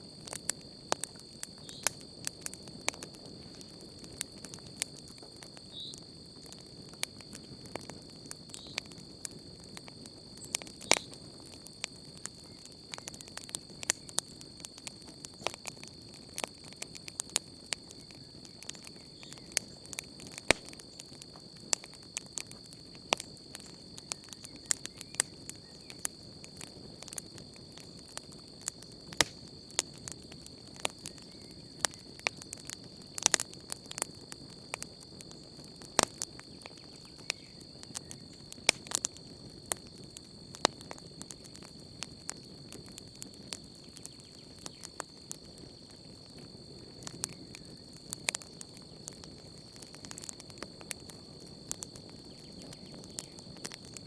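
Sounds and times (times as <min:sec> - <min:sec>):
campfire crackling and popping: 0:00.0 - 0:54.0
high-pitched insect trill: 0:00.0 - 0:54.0
rushing hiss of burning: 0:00.0 - 0:54.0.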